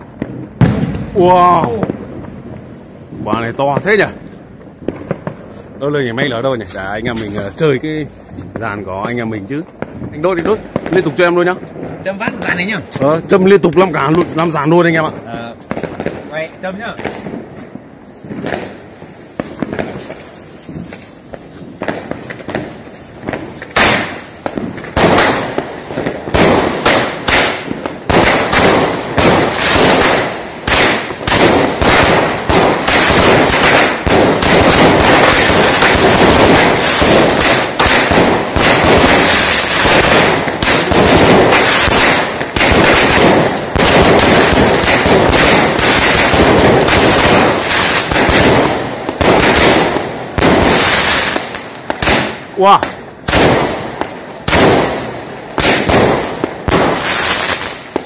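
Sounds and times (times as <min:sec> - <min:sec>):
fireworks crackle: 0:00.0 - 0:58.0
fireworks shots and bursts: 0:00.0 - 0:58.0.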